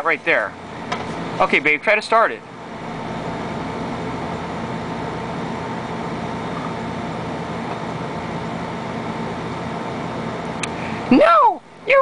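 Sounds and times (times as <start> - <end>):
mechanical whir with hum: 0.0 - 12.0.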